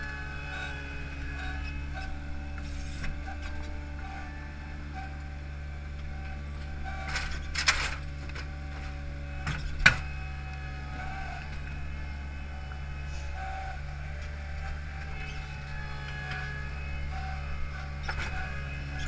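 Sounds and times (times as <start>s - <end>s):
machine engine running: 0.0s - 19.0s.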